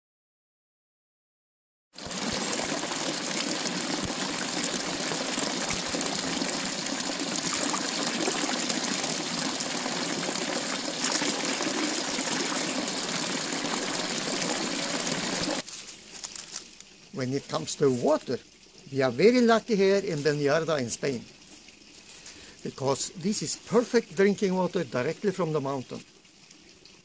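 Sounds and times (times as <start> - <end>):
water gushing into stone basin: 2.0 - 27.0.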